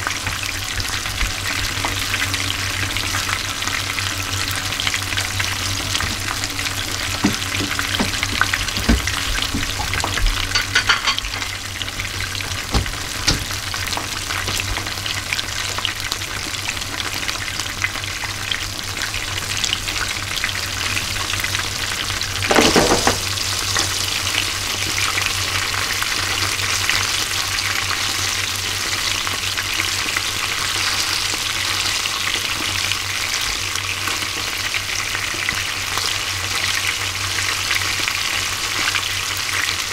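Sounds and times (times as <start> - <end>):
fish deep-frying in oil: 0.0 - 39.9.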